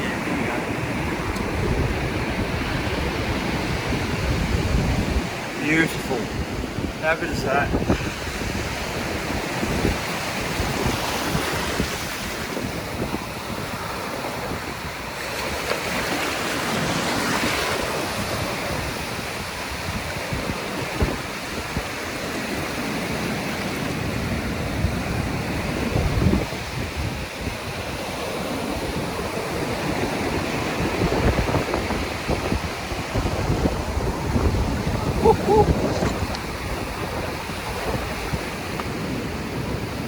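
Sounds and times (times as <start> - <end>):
surf washing on beach: 0.0 - 40.0
wind buffeting microphone: 0.0 - 40.0.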